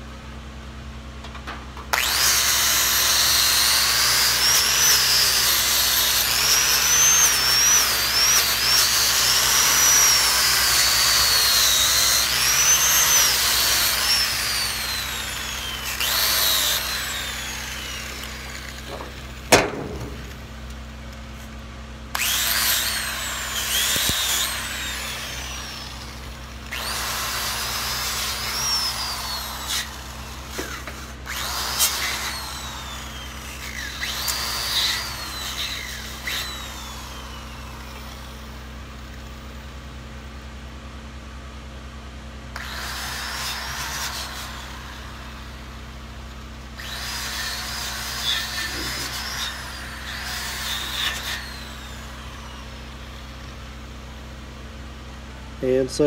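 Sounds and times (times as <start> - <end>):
wire wheel grinder whine: 1.2 - 56.0.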